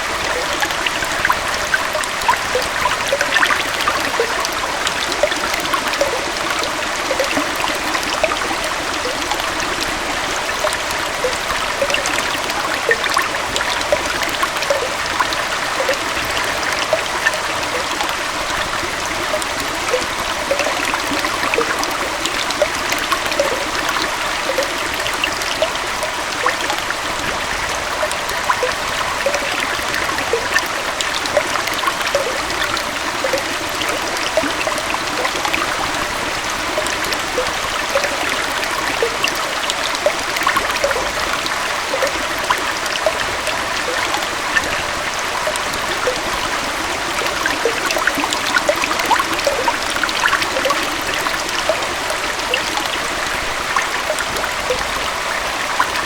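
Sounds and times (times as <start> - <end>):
small splashes and bubbling: 0.0 - 56.0
waterfall flowing into a stream: 0.0 - 56.0.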